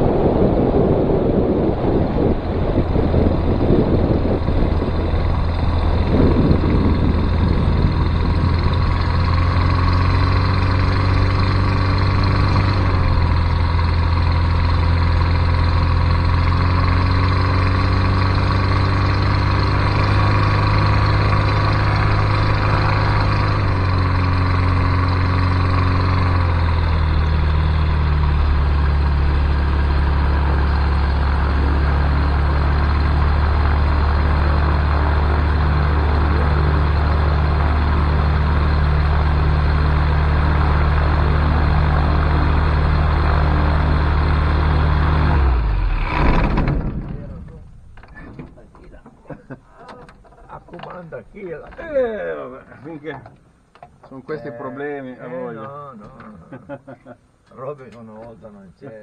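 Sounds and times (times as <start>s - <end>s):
wind noise on microphone: 0.0s - 48.6s
propeller plane engine: 0.0s - 49.1s.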